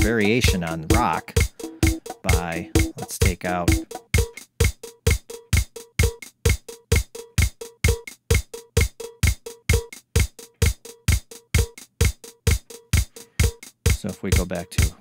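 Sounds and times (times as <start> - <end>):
drum machine samba pattern: 0.0 - 15.0.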